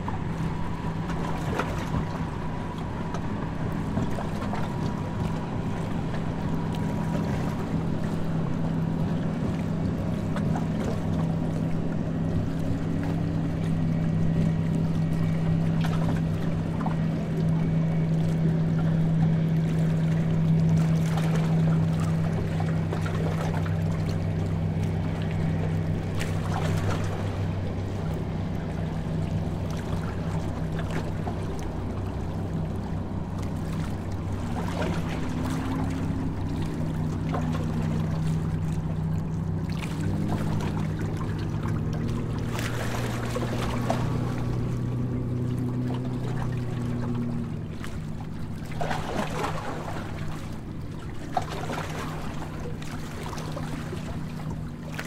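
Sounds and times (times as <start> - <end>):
boat engine humming: 0.0 - 55.0
water rushing along hull: 0.0 - 55.0.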